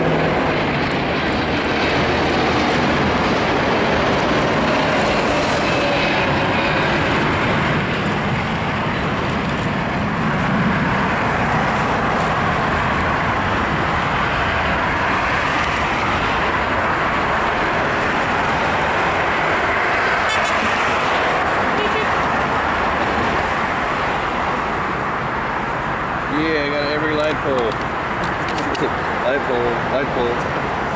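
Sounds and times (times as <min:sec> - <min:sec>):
jet engine roar: 0:00.0 - 0:30.9.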